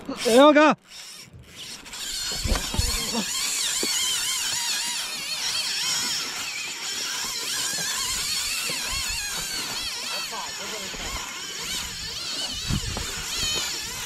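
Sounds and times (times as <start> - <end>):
fishing reel drag screaming: 0.0 - 14.0.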